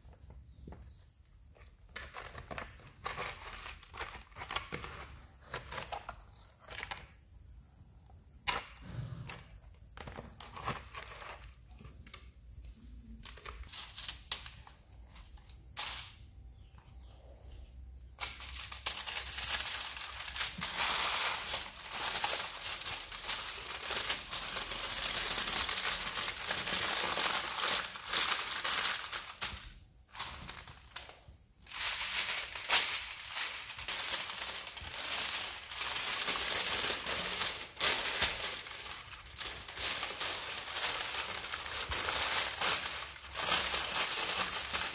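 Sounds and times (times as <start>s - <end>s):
aluminium foil crinkling: 1.8s - 7.1s, 9.9s - 11.8s, 13.0s - 16.2s, 18.2s - 44.9s.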